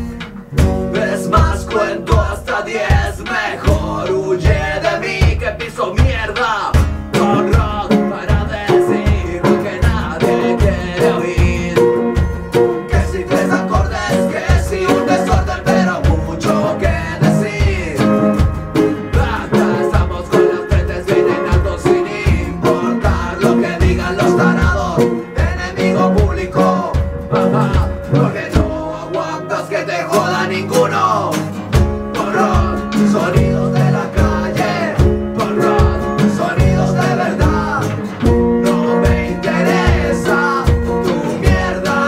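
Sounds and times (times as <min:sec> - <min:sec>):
bass drum beat: 0:00.0 - 0:29.3, 0:30.1 - 0:42.0
electric guitar: 0:00.0 - 0:42.0
person singing: 0:00.0 - 0:42.0
strummed acoustic guitar: 0:00.0 - 0:42.0.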